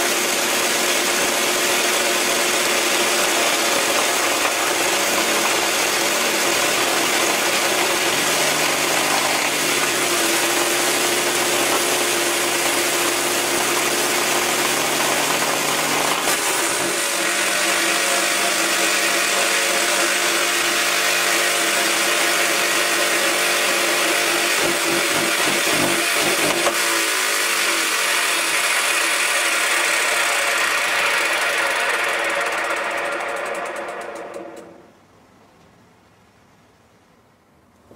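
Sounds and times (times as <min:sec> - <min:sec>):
electric mower motor whining: 0:00.0 - 0:34.9.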